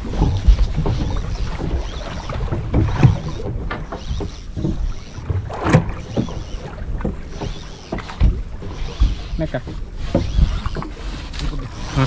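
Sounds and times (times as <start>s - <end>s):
wind buffeting microphone: 0.0s - 12.0s
short knocks: 0.1s - 12.0s.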